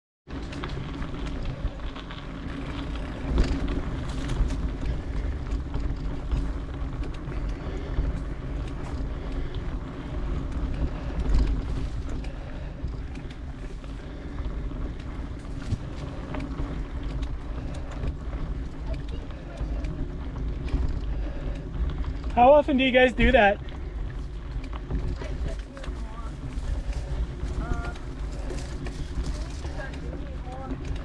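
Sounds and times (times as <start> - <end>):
bike clicks and knocks: 0.3 - 22.8, 23.6 - 31.0
tyres rumbling on dirt: 0.3 - 31.0
wind buffeting microphone: 0.3 - 31.0.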